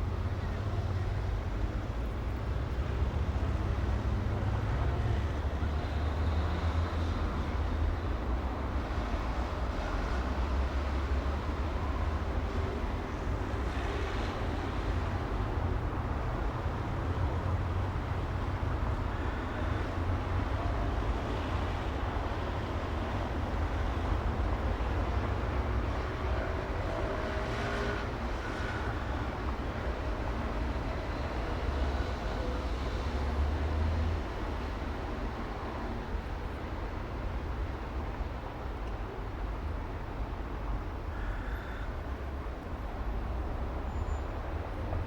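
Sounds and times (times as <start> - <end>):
road noise: 0.0 - 45.0
traffic rumble: 0.0 - 45.0.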